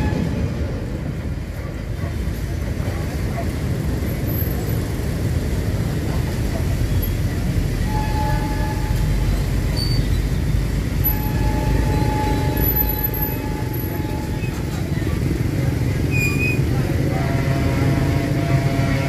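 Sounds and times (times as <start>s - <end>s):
freight train rumble: 0.0s - 19.0s
motorbikes: 0.0s - 19.0s
street traffic hum: 0.0s - 19.0s.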